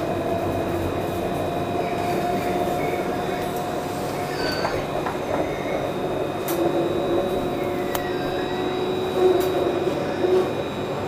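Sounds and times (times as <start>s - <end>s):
tram rumble: 0.0s - 11.0s.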